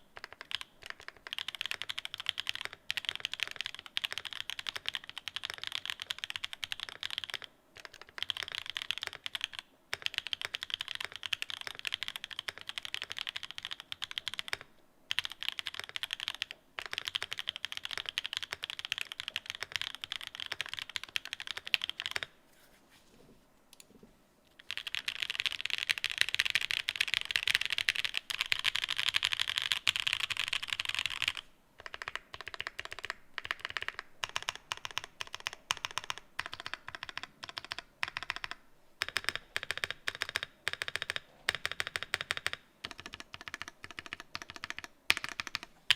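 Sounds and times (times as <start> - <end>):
mechanical keyboard typing: 0.0 - 22.3, 24.6 - 45.9.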